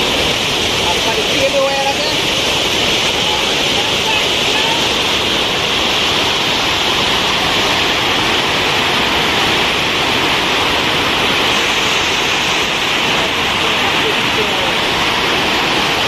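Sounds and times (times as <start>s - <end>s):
floodwater rushing over edge: 0.0s - 16.0s.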